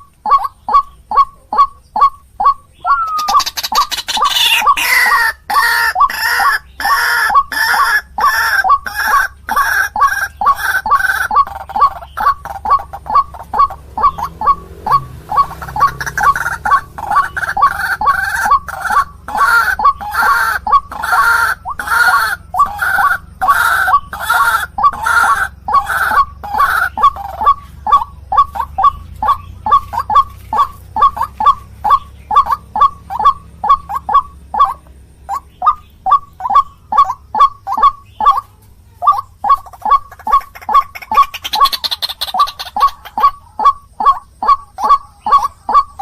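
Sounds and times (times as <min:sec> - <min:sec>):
waterhen calling: 0:00.0 - 0:46.0.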